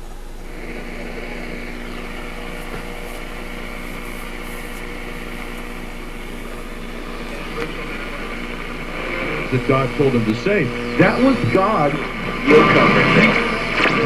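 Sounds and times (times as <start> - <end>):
low hum: 0.0 - 14.0
radio static hiss: 0.0 - 14.0.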